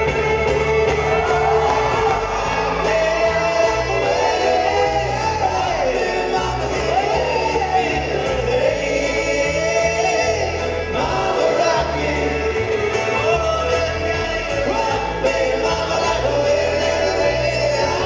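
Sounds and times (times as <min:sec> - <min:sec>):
live string band playing: 0:00.0 - 0:18.0
voices singing along: 0:01.0 - 0:18.0.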